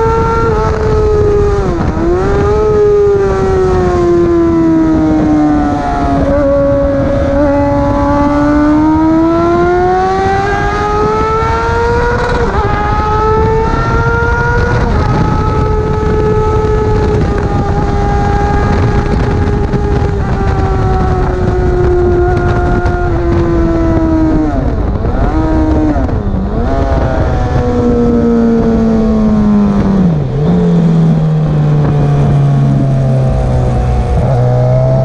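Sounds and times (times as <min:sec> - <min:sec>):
motorcycle engine shifting gears: 0:00.0 - 0:35.0
wind and road noise rumble: 0:00.0 - 0:35.0.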